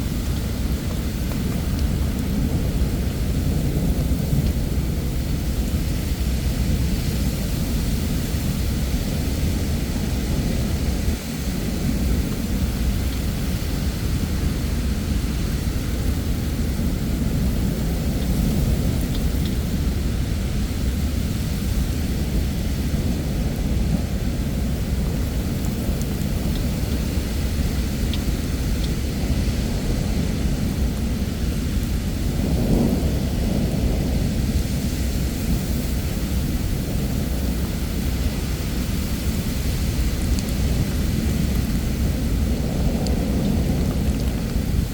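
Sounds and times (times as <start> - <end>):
heavy rain hissing: 0.0 - 44.9
thunder rumbling: 0.0 - 44.9.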